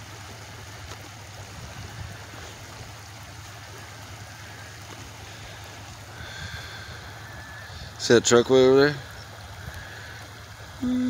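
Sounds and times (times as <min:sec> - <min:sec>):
floodwater rushing: 0:00.0 - 0:11.0
rain falling on water: 0:00.0 - 0:11.0.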